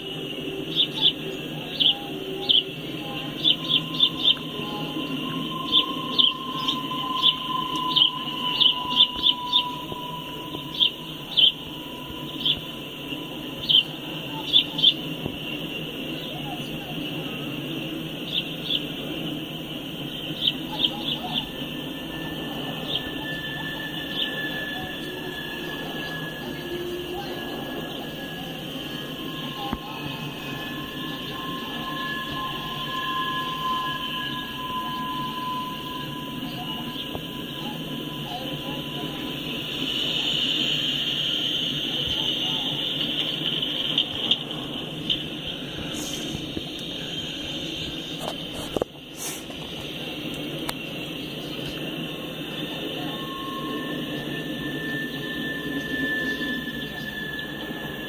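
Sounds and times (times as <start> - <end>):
sharp high chirps: 0.0 - 48.4, 50.8 - 58.0
rail cars rumbling past: 0.0 - 58.0
wheels squealing: 0.0 - 58.0.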